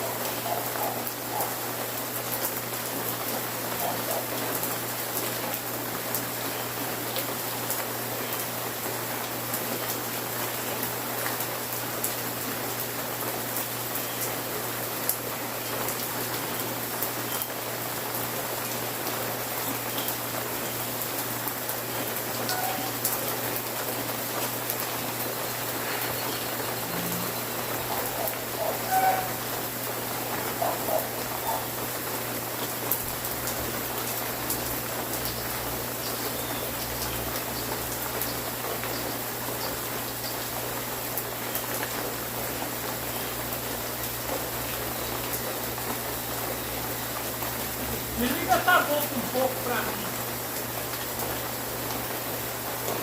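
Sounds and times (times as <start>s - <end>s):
raindrops ticking on surfaces: 0.0s - 53.0s
steady rain falling: 0.0s - 53.0s.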